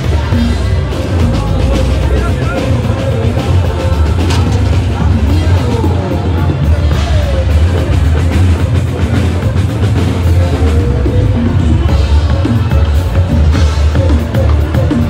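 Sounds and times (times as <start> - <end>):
loud music with heavy bass: 0.0 - 15.0.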